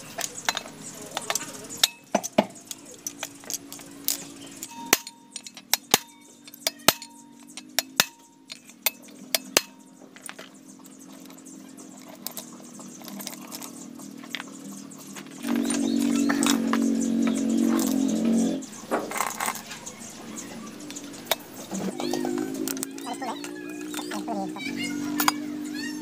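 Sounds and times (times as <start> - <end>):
metallic clinks of steel pistons: 0.0 - 16.6, 18.6 - 25.8
low steady hum: 0.0 - 26.0.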